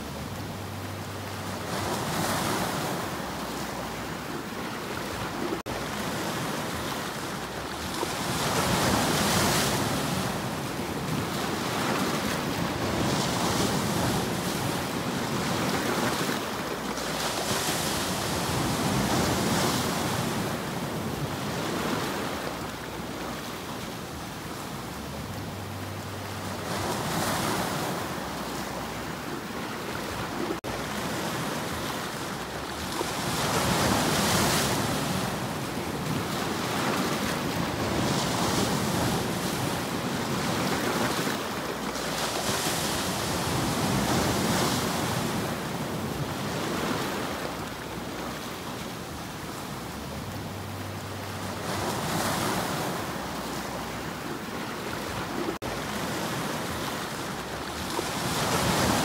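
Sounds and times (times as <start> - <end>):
sea waves breaking on rocks: 1.3 - 25.4, 26.3 - 50.5, 51.2 - 59.0.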